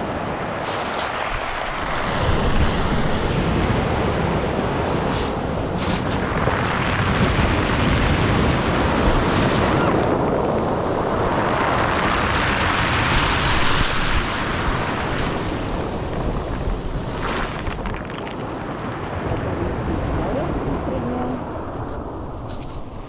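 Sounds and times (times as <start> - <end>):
sea waves washing on shore: 0.0 - 23.0
wind on microphone: 0.0 - 23.0.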